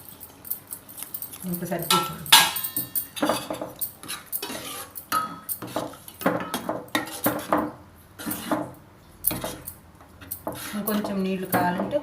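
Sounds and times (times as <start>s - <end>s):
metal spoon scraping a pot: 1.9s - 12.0s.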